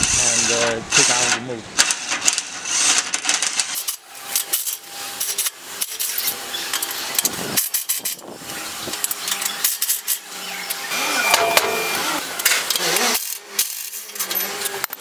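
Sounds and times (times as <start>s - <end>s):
electric wrench running: 0.0s - 15.0s.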